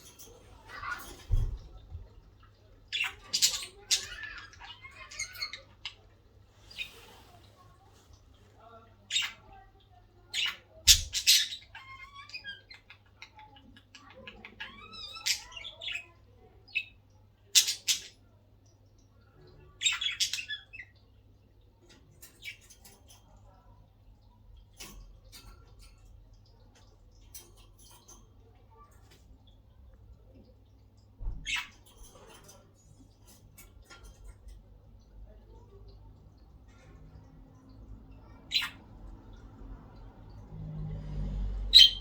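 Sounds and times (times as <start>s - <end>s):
budgies chattering and chirping: 0.0s - 40.4s, 41.6s - 42.0s.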